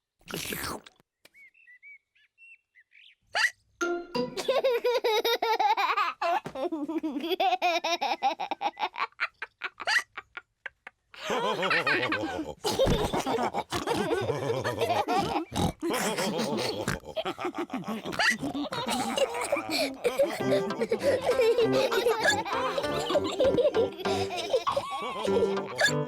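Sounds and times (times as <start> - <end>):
cartoon pigs laughing: 4.3 - 26.0.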